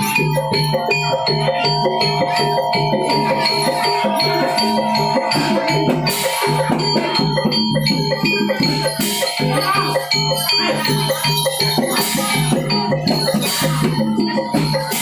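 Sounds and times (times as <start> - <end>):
drumming: 0.0 - 15.0
gamelan music: 0.0 - 15.0.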